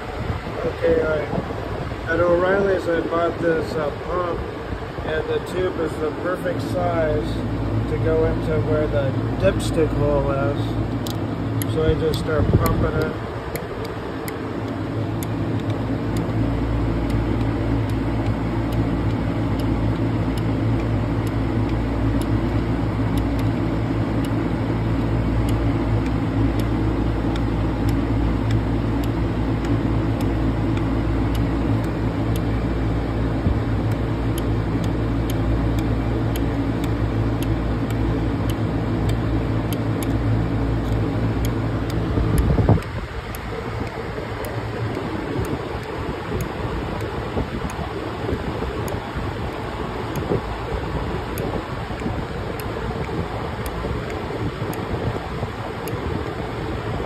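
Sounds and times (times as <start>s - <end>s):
fluid pump humming: 0.0s - 57.0s.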